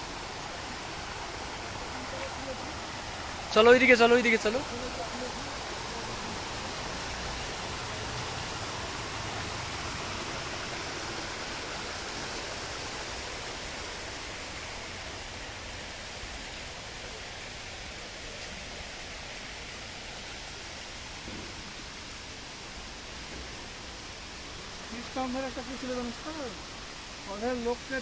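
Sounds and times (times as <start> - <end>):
water feature rushing: 0.0 - 28.0.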